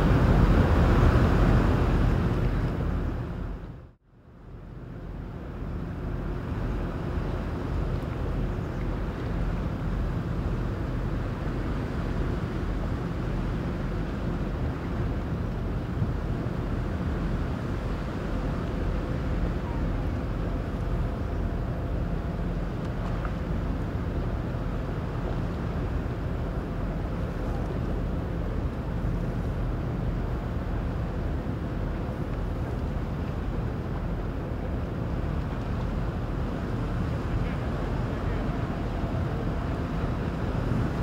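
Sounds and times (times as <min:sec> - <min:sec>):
faint steady hum: 0:00.0 - 0:41.0
ship engines rumbling: 0:04.8 - 0:41.0.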